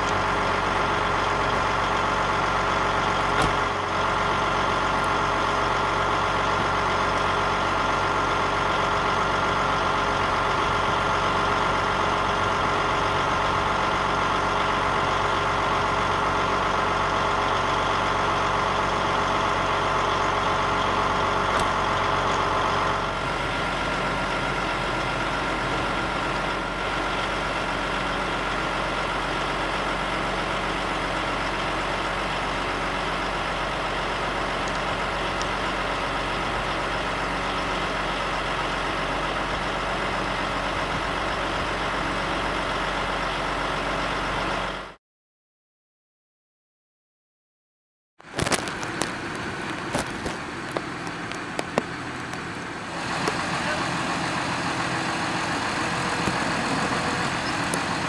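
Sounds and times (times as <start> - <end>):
diesel engine idling: 0.0 - 45.0, 48.3 - 58.0.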